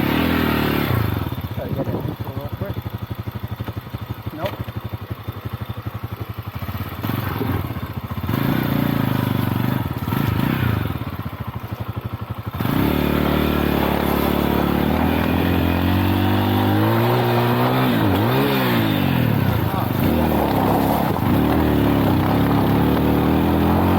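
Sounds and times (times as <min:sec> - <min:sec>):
small motorcycle engine running: 0:00.0 - 0:23.9.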